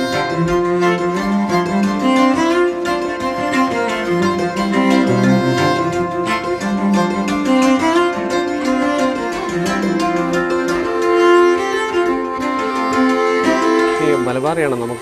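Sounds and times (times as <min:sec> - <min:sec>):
bowed strings playing held notes: 0:00.0 - 0:15.0
steady plucked pulse: 0:00.0 - 0:15.0.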